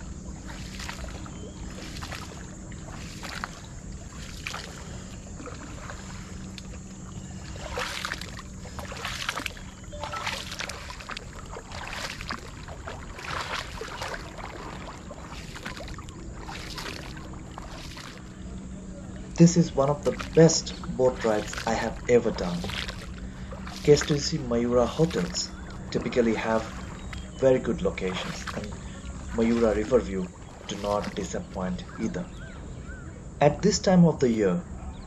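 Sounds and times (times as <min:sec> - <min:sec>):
paddle splashing through water: 0:00.0 - 0:33.0.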